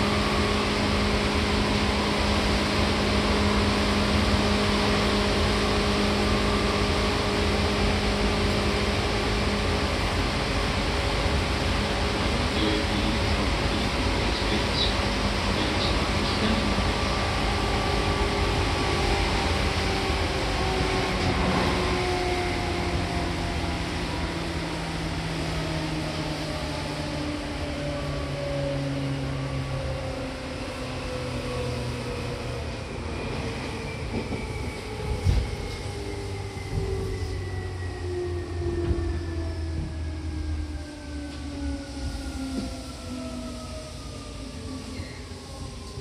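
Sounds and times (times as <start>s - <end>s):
electric train rumble and whine: 0.0s - 46.0s.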